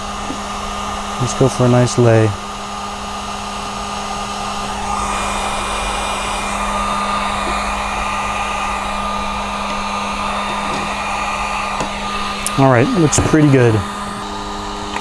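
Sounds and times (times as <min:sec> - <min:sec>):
heat gun blowing hot air: 0:00.0 - 0:15.0
motor hum: 0:00.0 - 0:15.0.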